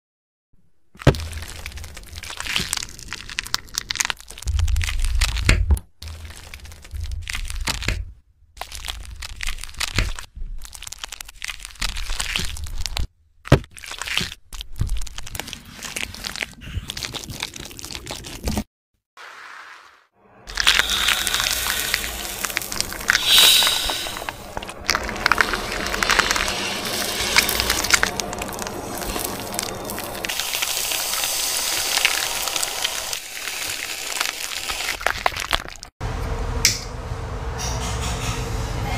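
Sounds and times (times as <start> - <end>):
wax sizzling and popping: 1.0 - 18.6, 20.5 - 36.0.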